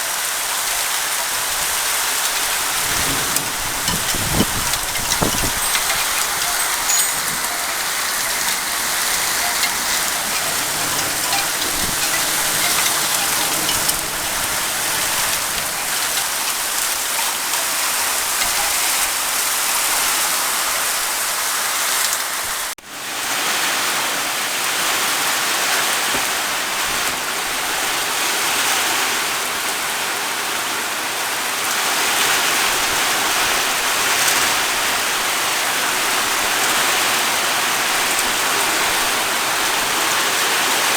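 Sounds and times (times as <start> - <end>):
heavy rain pouring: 0.0 - 30.7, 31.5 - 40.9.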